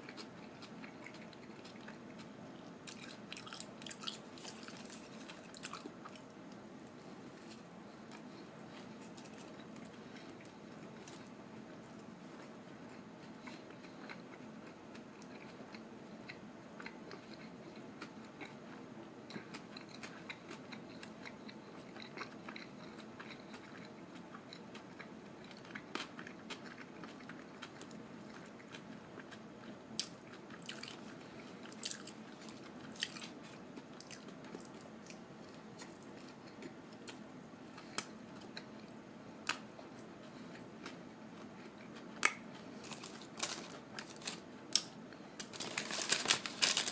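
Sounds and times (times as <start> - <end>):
low steady hum: 0.0 - 46.9
person chewing: 0.0 - 46.9.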